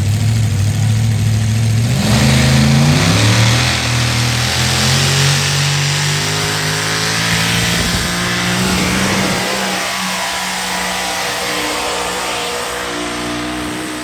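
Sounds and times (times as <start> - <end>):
truck engine roaring under load: 0.0 - 14.0.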